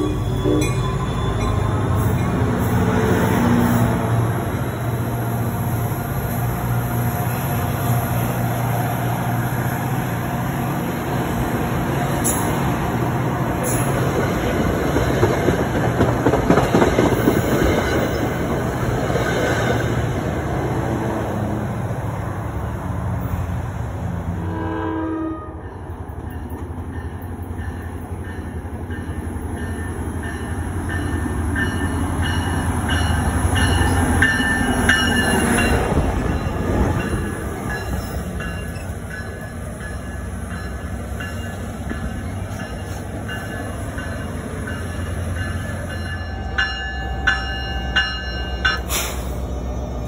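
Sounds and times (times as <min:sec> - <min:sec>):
train passing with low rumble: 0:00.0 - 0:50.0.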